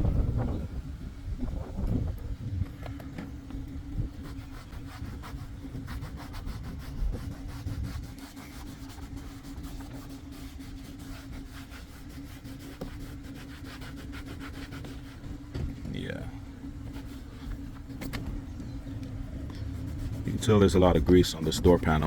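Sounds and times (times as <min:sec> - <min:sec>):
steady low hum: 0:00.0 - 0:22.0
brush scrubbing door panel: 0:03.2 - 0:22.0.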